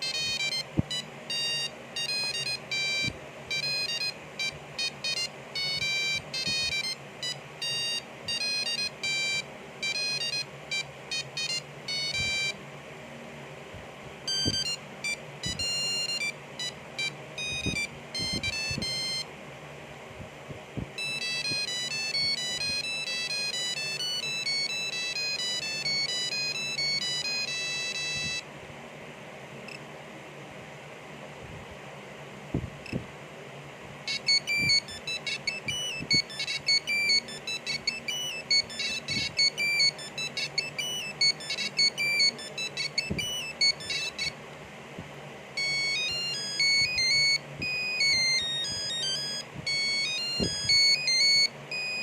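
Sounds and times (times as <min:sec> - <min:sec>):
monophonic phone ringtones: 0:00.0 - 0:12.6, 0:14.3 - 0:19.3, 0:21.0 - 0:28.4, 0:34.1 - 0:44.4, 0:45.6 - 0:52.0.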